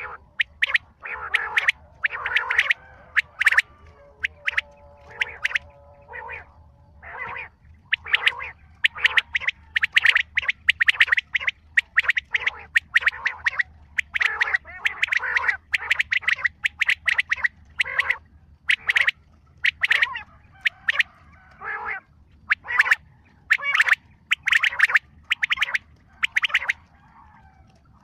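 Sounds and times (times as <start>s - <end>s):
bird harsh chattering calls: 0.0s - 26.8s
faint low hum: 0.0s - 28.0s.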